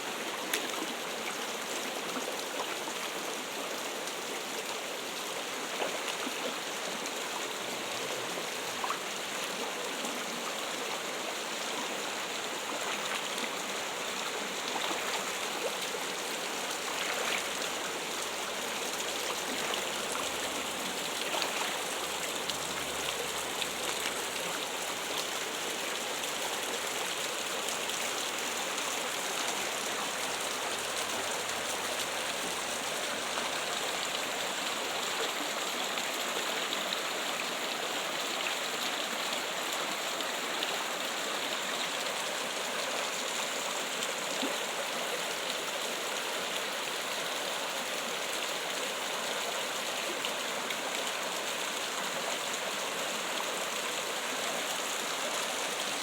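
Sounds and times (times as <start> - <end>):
water trickling and splashing: 0.1 - 56.0.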